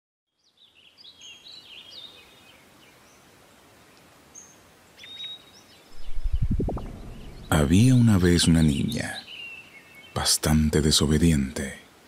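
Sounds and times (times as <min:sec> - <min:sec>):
small birds chirping: 0:00.3 - 0:11.4
outdoor background hiss: 0:00.3 - 0:12.0.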